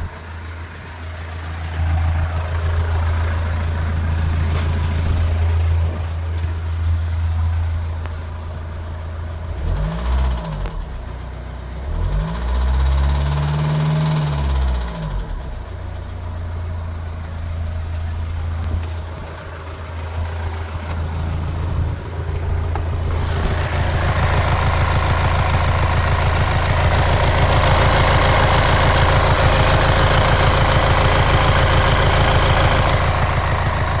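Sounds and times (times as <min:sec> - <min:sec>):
diesel engine idling with clatter: 0:00.0 - 0:34.0.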